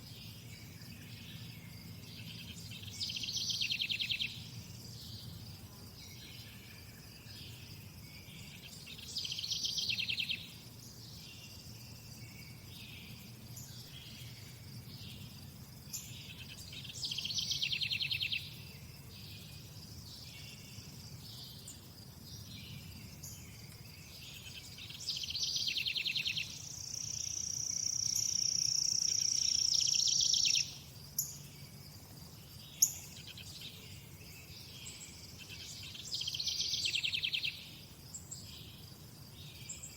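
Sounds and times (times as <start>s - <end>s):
insects high chirping: 0.0s - 39.9s.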